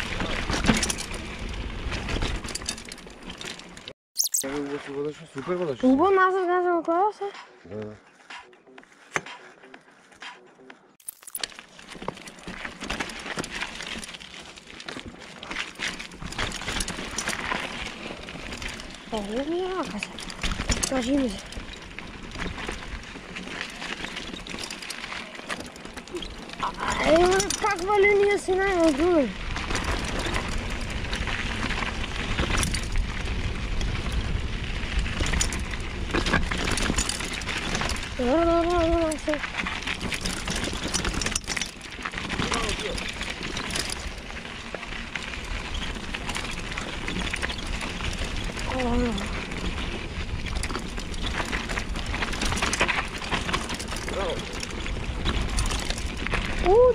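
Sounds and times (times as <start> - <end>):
bike rattling clicks: 11.0 - 56.9
tyres crunching over stones: 11.0 - 56.9.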